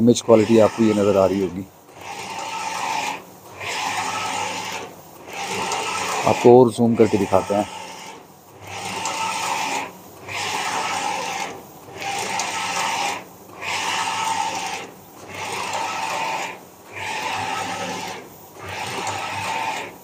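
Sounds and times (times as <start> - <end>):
printer carriage whirring: 0.0 - 20.0.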